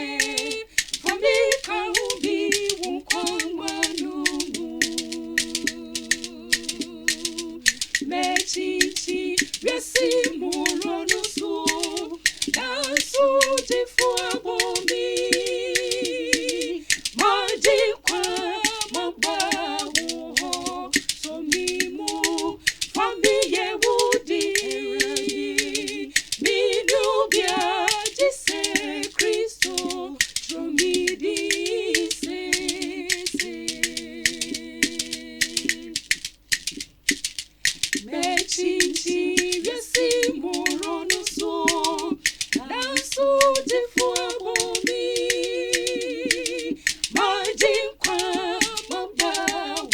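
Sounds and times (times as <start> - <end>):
vocal group singing in harmony: 0.0 - 36.2, 37.6 - 49.9
sharp clicks keeping time: 0.0 - 49.9.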